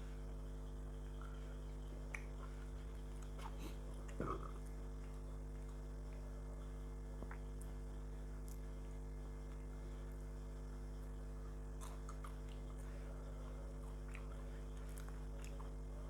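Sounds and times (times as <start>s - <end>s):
electrical hum: 0.0s - 16.0s
faint chewing: 1.0s - 10.2s, 10.9s - 16.0s.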